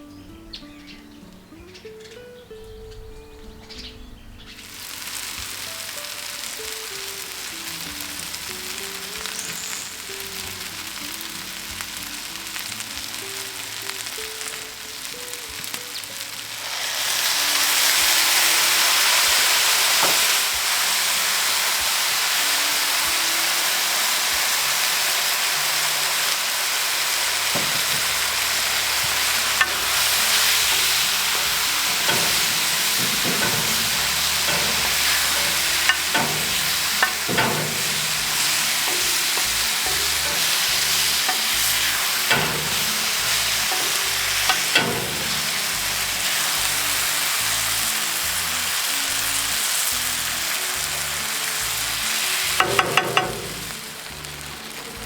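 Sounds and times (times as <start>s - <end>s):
light background music: 0.0s - 55.0s
food sizzling in a pot: 4.5s - 55.0s.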